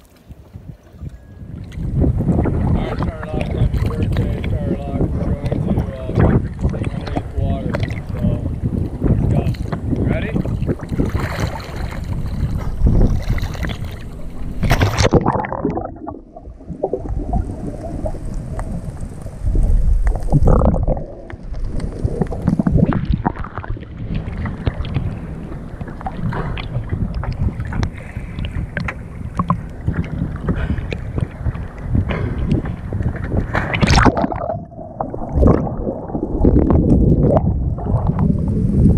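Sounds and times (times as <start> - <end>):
sea water sloshing on camera: 0.0 - 38.9.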